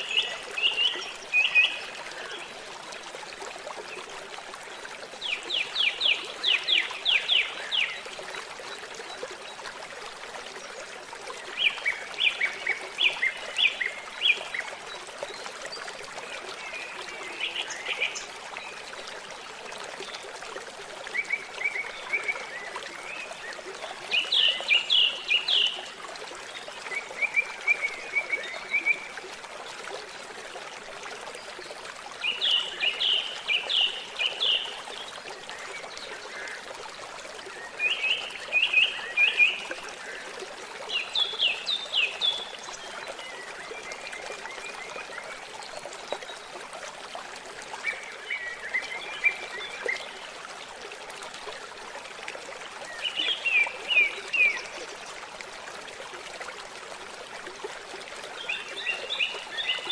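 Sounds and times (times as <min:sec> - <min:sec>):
trickle of running water: 0:00.0 - 0:59.9.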